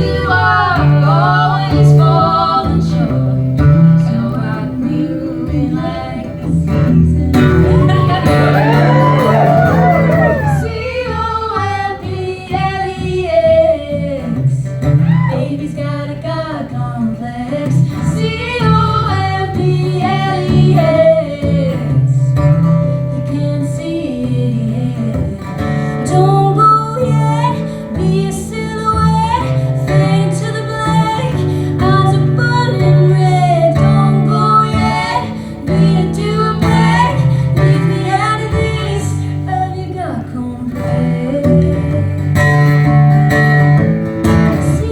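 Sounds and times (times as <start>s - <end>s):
woman singing: 0.0s - 42.8s, 43.4s - 44.9s
acoustic guitar: 0.0s - 44.9s.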